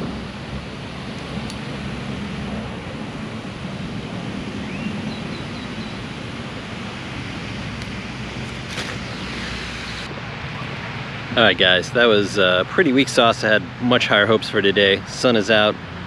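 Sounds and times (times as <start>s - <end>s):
wind noise on microphone: 0.0s - 13.3s.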